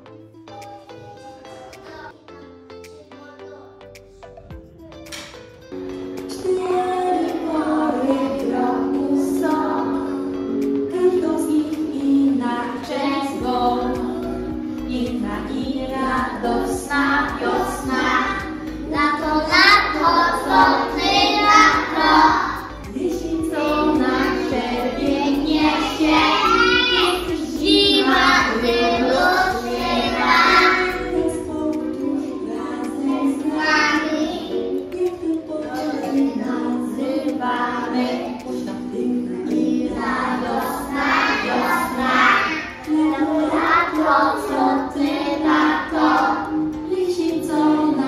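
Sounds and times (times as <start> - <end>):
children singing: 0.0 - 2.6, 4.7 - 48.0
instrumental accompaniment: 0.0 - 48.0.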